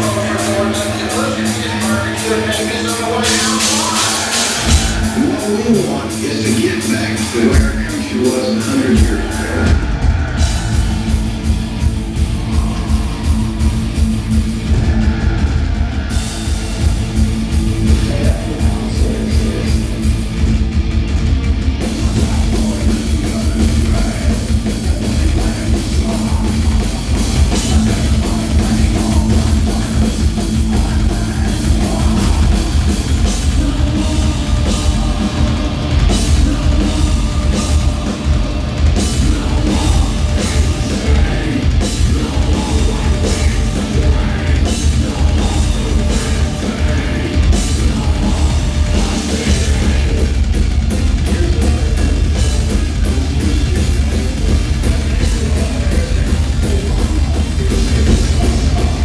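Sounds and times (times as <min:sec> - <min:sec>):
distorted guitar: 0:00.0 - 0:59.0
drum kit beat: 0:00.0 - 0:59.0.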